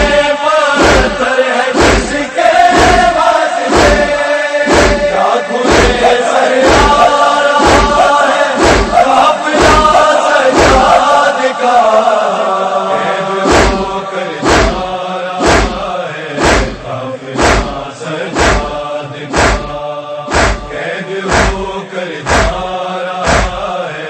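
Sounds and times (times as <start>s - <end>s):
chanted lament: 0.0s - 24.0s
people beating their chests: 0.1s - 11.2s, 13.4s - 23.7s.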